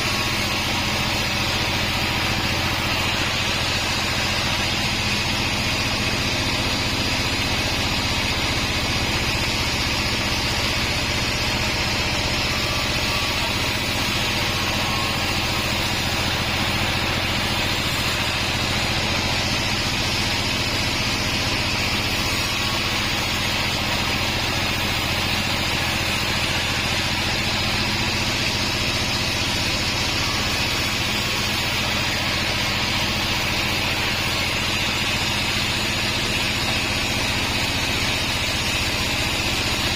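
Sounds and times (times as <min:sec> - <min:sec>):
band saw machine hum: 0:00.0 - 0:39.9
high-pitched saw noise: 0:00.0 - 0:39.9.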